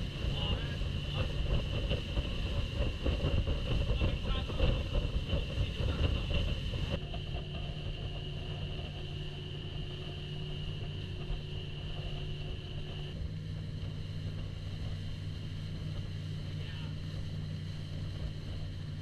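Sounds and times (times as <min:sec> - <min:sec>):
motorboat engine droning: 0:00.0 - 0:19.0
water and hull noise: 0:00.0 - 0:19.0.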